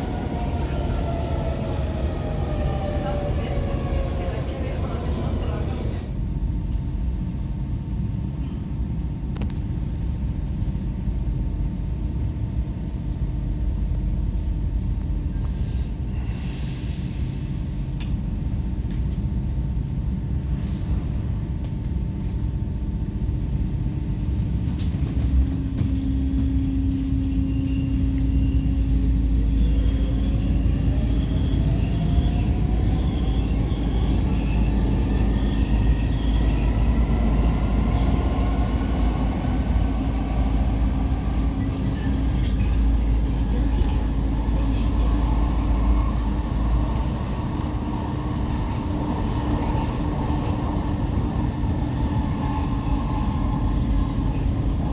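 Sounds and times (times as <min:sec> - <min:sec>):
metro train rumble: 0:00.0 - 0:54.9.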